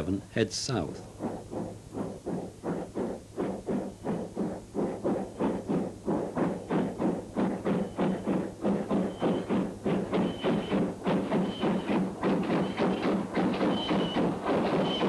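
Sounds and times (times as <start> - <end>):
steady low hum: 0.0 - 15.0
steam locomotive chuffing: 0.0 - 15.0.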